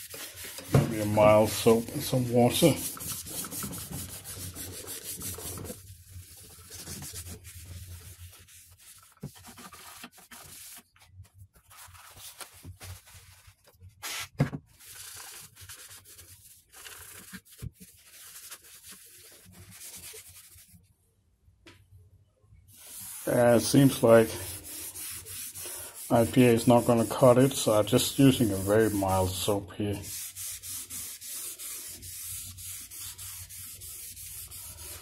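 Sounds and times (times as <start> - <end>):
tissue rubbing on wood: 0.0 - 20.8, 22.7 - 35.0.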